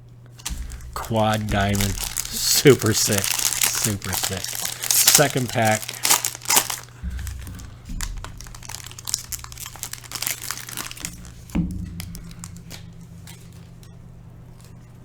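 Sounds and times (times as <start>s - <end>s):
steady low hum: 0.0s - 15.0s
wrapper crinkling and rustling: 0.3s - 14.0s
low thump: 0.4s - 4.8s, 7.0s - 15.0s.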